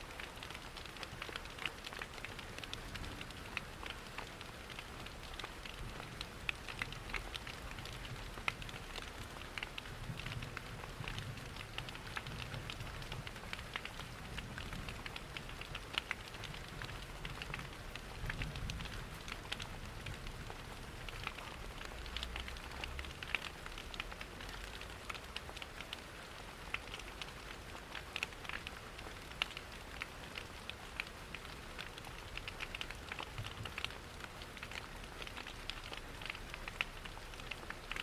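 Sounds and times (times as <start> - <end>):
rain patter: 0.0 - 38.0
wood fire crackling: 0.1 - 38.0.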